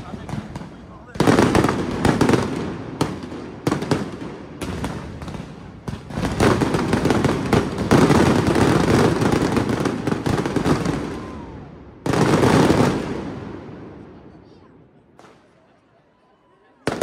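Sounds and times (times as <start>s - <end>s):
fireworks bangs and crackling: 0.0s - 15.7s, 16.8s - 17.0s.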